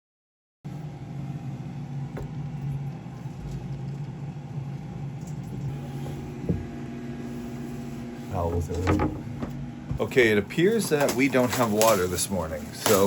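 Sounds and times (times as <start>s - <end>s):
motor humming: 0.7s - 13.0s.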